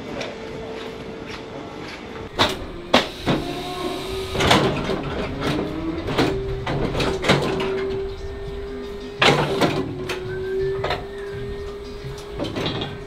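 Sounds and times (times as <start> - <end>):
metal frame clanking: 2.3 - 13.0
motor humming: 2.3 - 13.0.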